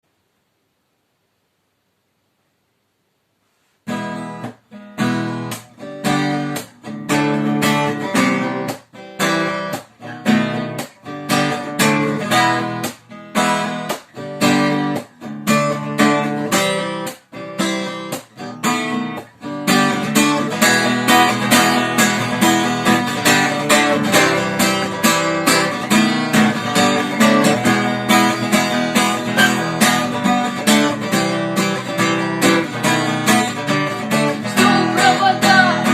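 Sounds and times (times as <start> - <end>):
acoustic guitar strumming: 3.8 - 35.9.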